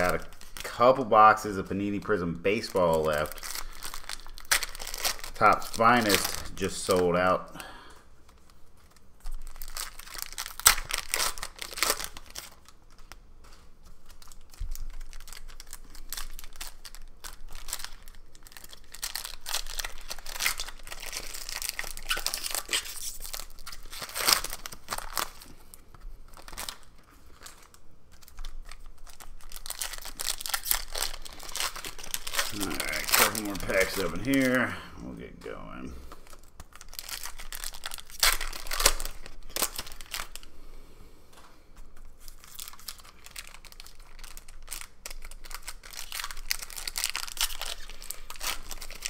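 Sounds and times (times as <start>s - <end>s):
foil wrappers tearing and crinkling: 0.0s - 7.7s, 8.3s - 13.2s, 13.8s - 34.7s, 36.1s - 40.5s, 42.0s - 49.0s.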